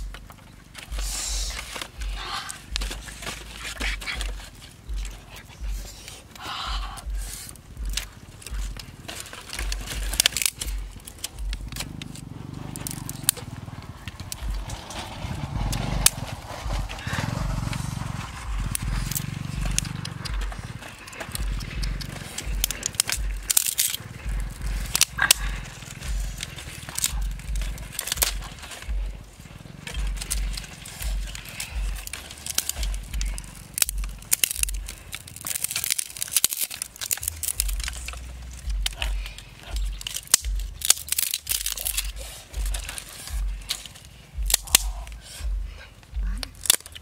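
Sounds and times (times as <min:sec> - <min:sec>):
dry twigs snapping and crackling: 0:00.0 - 0:47.0.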